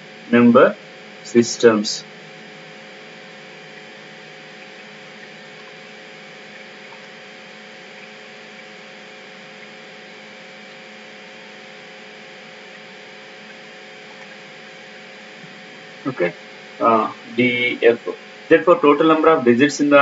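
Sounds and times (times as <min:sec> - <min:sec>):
faint electrical hum: 0:00.0 - 0:20.0
steady hiss: 0:00.0 - 0:20.0.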